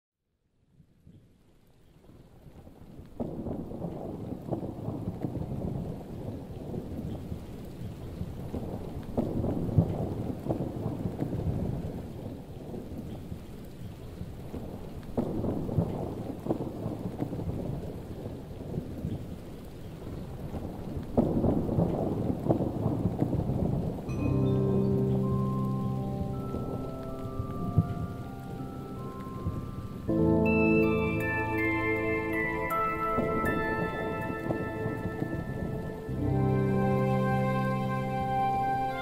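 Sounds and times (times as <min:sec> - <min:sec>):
rain: 0:00.4 - 0:39.0
rolling thunder: 0:03.2 - 0:13.1, 0:14.5 - 0:19.3, 0:20.1 - 0:39.0.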